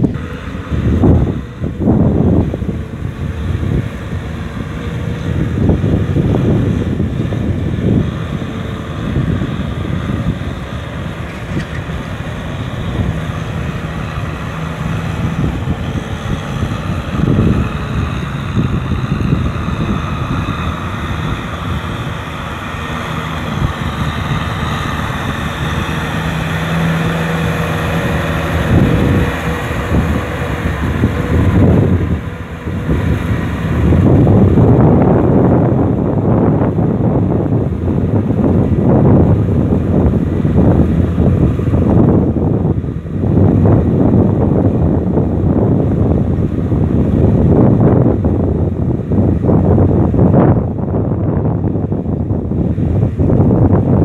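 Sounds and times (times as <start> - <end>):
tractor diesel engine running: 0.0 - 54.0
wind buffeting microphone: 0.0 - 54.0.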